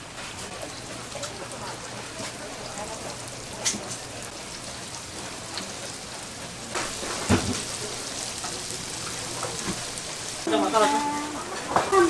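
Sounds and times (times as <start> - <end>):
doughnuts deep-frying in oil: 0.0 - 12.0.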